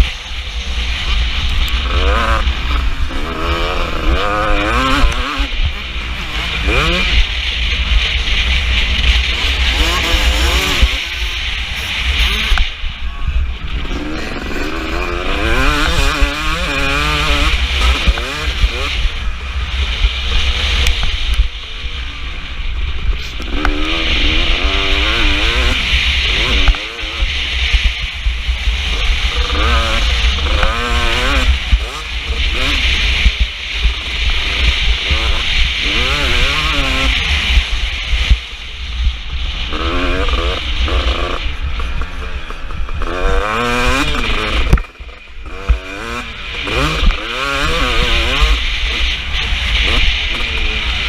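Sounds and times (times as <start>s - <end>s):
motocross bike engine revving: 0.0s - 51.0s
wind noise: 0.0s - 51.0s.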